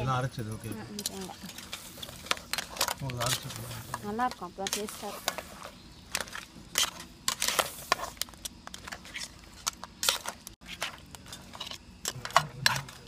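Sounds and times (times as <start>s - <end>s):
crab shell scraping a pan: 1.0s - 13.0s
metal spatula scraping a pan: 1.3s - 13.0s.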